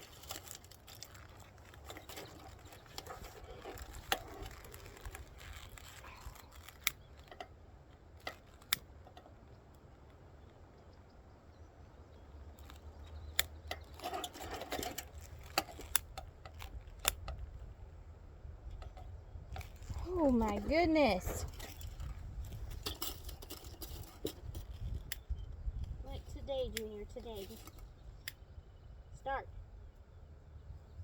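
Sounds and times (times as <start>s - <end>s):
rustling and crinkling: 0.0s - 10.6s, 12.4s - 17.8s, 18.7s - 28.0s.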